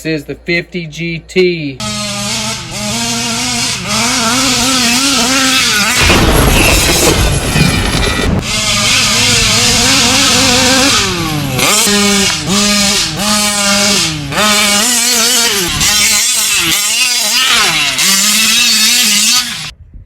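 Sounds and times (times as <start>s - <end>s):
rc car gas engine revving: 1.8s - 7.2s, 8.4s - 19.7s.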